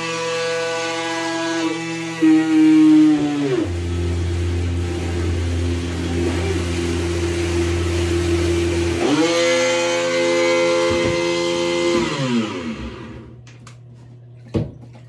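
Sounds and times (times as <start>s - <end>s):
electric motor whining: 0.0s - 13.4s.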